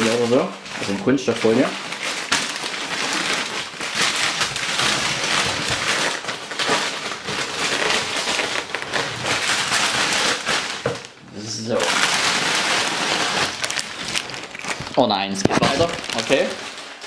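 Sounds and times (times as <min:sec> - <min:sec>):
paper wrapping rustling and crinkling: 0:00.0 - 0:17.0.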